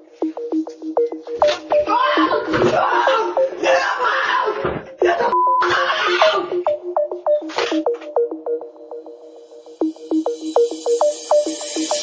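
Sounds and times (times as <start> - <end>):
plucked synth electronic music: 0.0 - 12.0.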